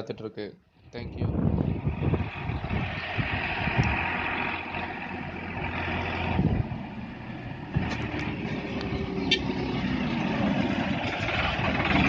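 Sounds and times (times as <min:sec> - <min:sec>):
diesel tractor engine humming: 0:01.0 - 0:12.0.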